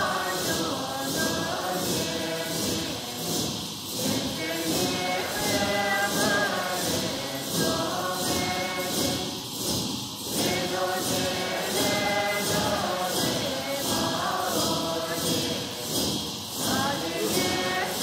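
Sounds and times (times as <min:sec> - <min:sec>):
choir singing chant-like melody: 0:00.0 - 0:18.0
light percussive beat: 0:00.0 - 0:18.0.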